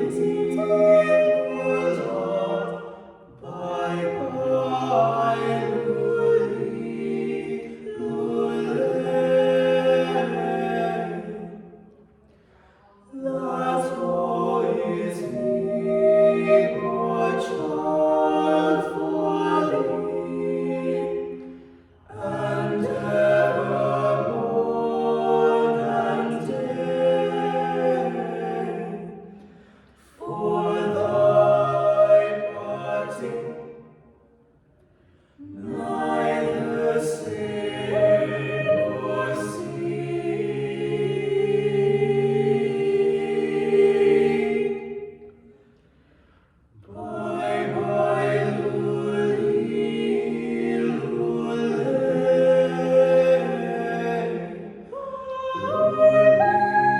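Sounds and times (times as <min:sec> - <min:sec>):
a cappella choir singing: 0:00.0 - 0:56.9.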